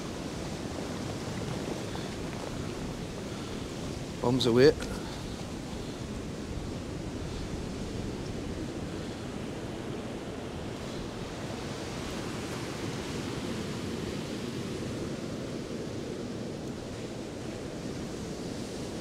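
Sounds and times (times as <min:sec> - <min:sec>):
sea surf washing: 0:00.0 - 0:19.0.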